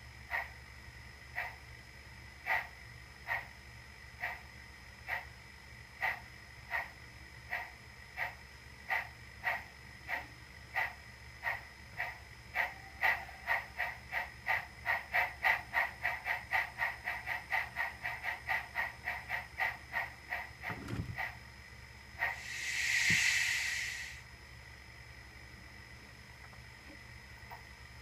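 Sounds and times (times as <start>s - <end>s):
model steam locomotive chuffs: 0.0s - 21.4s, 22.1s - 24.3s.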